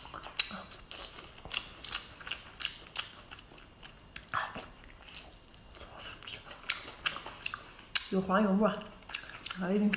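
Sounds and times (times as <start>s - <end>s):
wet chewing and biting: 0.0s - 8.2s, 8.8s - 9.9s.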